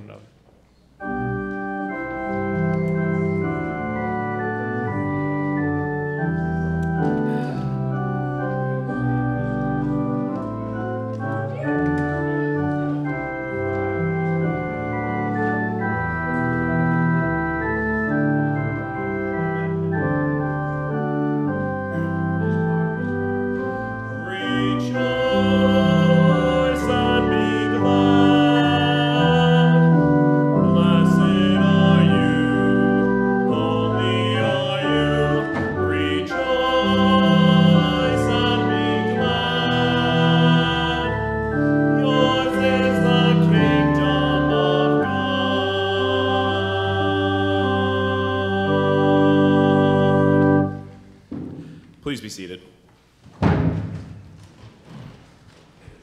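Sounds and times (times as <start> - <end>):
organ playing slow chords: 0.8 - 52.3.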